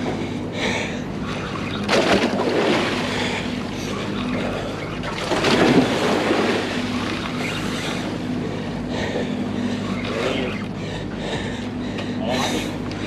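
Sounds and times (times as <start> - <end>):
boat mechanical hum: 0.0 - 13.0
water sloshing and splashing: 0.0 - 13.0.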